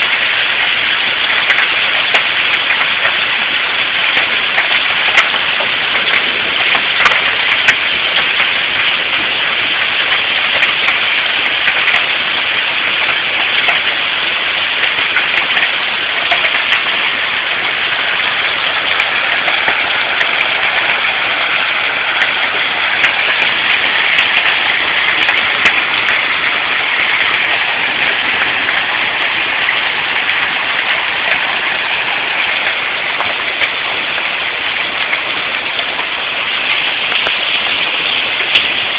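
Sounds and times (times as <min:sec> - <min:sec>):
hailstones clicking on hard surfaces: 0:00.0 - 0:38.9
heavy rain hissing: 0:00.0 - 0:38.9.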